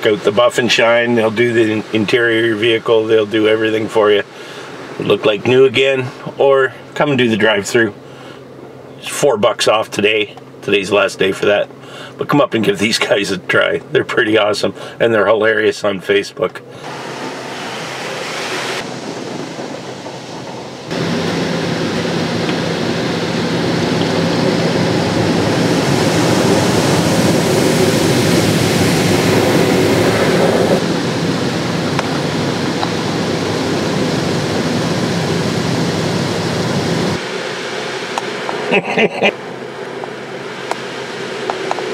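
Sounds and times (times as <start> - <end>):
water jets spraying car: 0.0 - 8.0, 9.4 - 41.9
low machine hum: 0.0 - 41.9.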